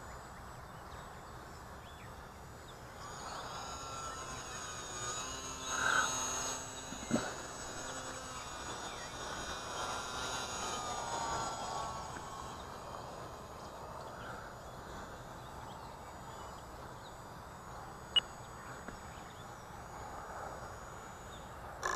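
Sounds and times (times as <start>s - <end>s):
faint outdoor background: 0.0s - 21.9s
rc plane motor whining: 2.5s - 21.9s.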